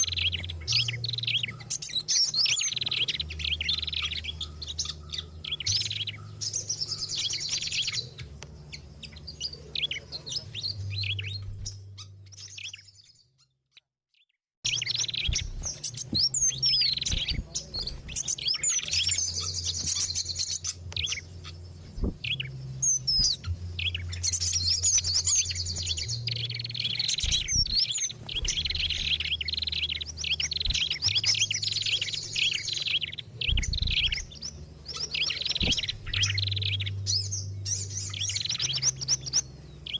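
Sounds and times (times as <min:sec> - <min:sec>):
low hum: 0:00.0 - 0:13.3, 0:14.6 - 0:39.9
small songbirds chirping: 0:00.0 - 0:39.9.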